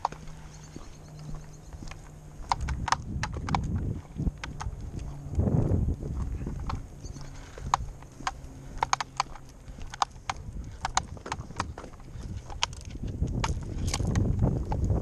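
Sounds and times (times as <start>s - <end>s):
footsteps on tarmac: 0.0s - 15.0s
low steady hum: 0.0s - 15.0s.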